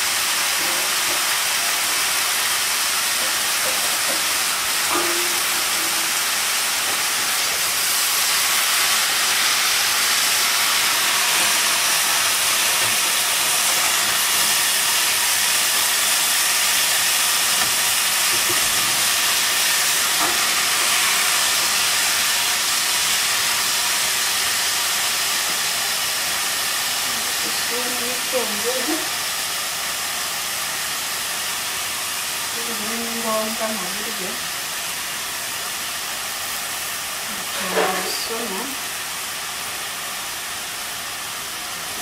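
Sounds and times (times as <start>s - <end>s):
food sizzling in a pan: 0.0s - 42.0s.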